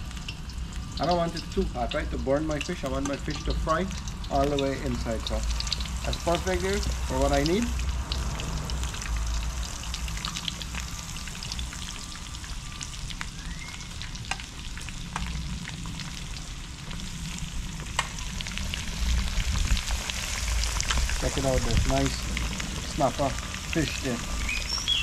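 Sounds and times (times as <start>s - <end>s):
fish frying in hot oil: 0.0s - 25.0s
low steady rumble: 0.0s - 25.0s.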